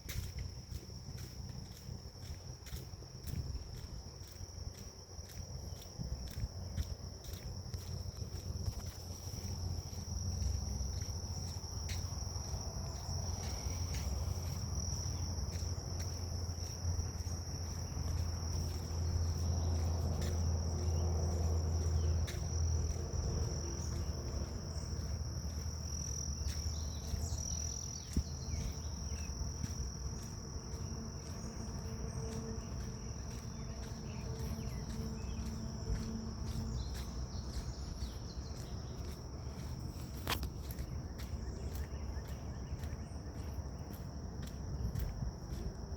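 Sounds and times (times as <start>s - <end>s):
crickets droning: 0.0s - 45.9s.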